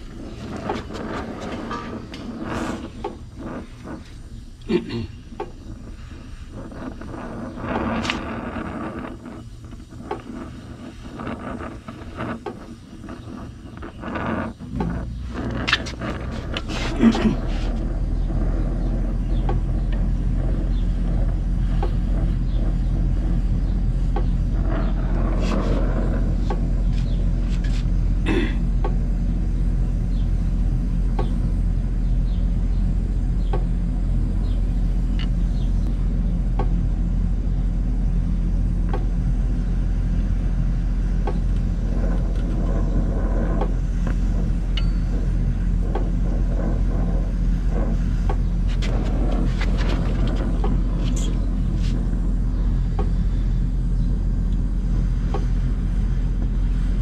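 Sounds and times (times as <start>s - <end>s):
gas torch burning: 0.0s - 57.0s
low mechanical hum: 0.0s - 57.0s.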